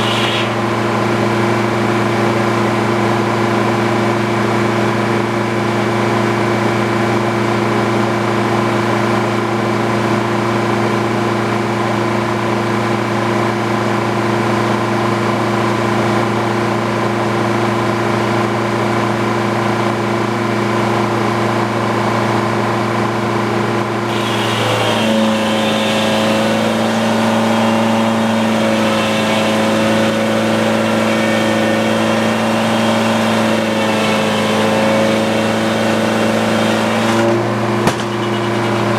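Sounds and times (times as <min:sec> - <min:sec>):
sawmill power unit running: 0:00.0 - 0:38.9.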